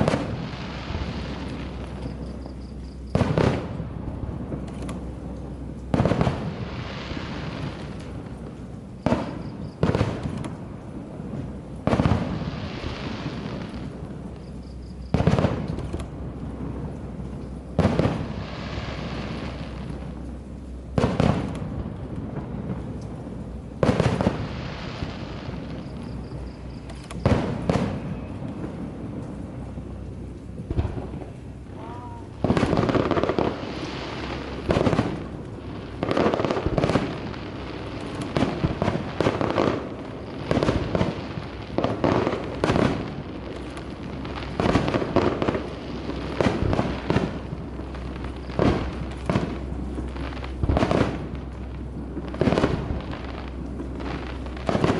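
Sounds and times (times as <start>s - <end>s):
fireworks bursting with booming echo: 0.0s - 54.9s
low rumble: 0.0s - 54.9s.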